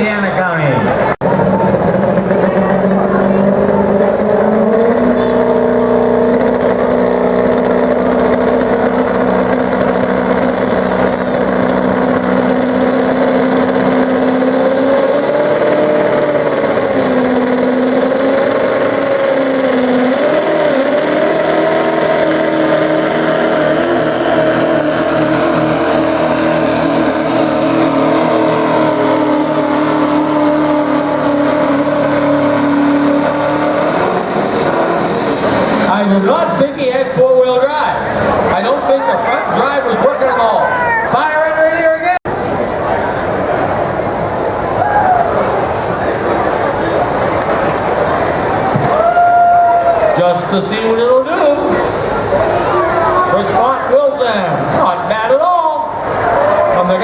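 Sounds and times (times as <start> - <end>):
pickup diesel engine droning: 0.0 - 57.0.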